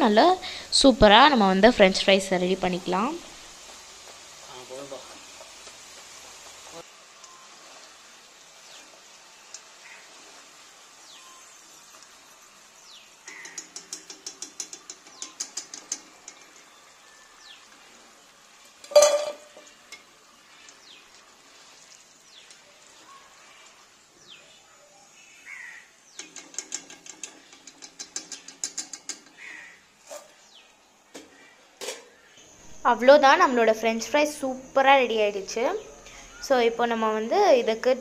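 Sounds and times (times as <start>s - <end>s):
fries crackling in hot oil: 0.0s - 38.0s.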